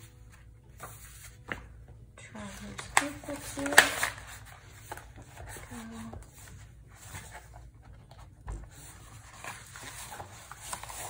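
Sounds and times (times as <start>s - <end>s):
notebook pages rustling: 0.0s - 11.0s.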